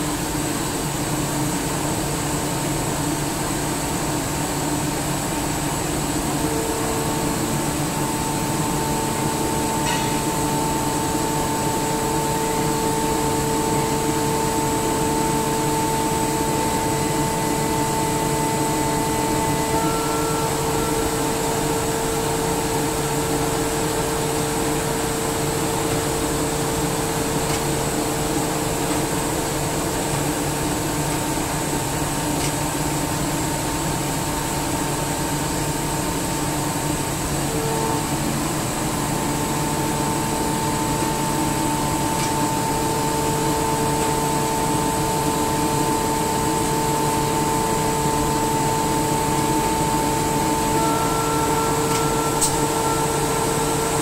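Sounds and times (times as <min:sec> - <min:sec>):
air compressor running: 0:00.0 - 0:54.0.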